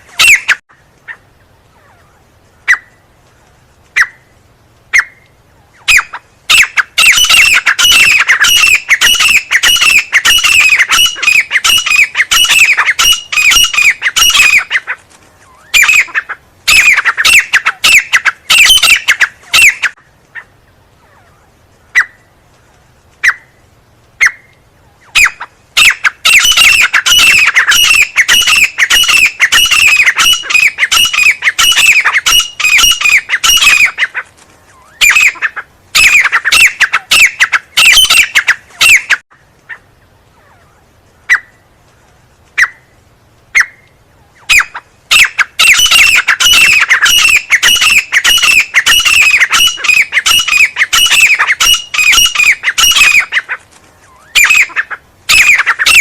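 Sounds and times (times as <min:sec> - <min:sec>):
francolin calling: 0:03.9 - 0:22.4, 0:23.2 - 0:41.7, 0:42.6 - 0:56.0.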